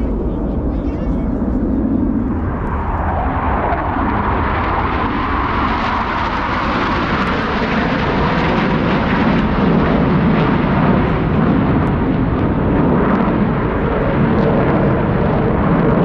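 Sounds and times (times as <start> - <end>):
jets roaring: 0.0 - 16.0.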